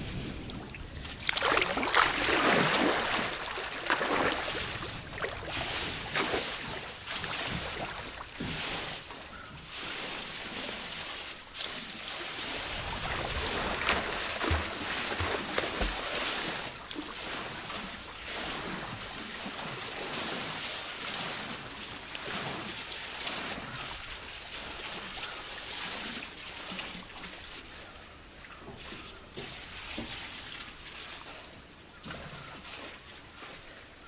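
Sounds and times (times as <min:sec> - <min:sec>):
pool water lapping and splashing: 0:00.0 - 0:34.0.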